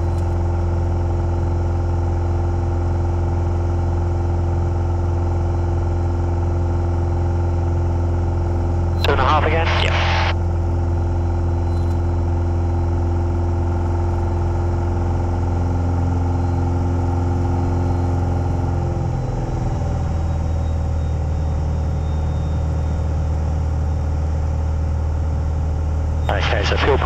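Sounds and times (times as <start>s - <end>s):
light aircraft engine drone: 0.0s - 27.0s.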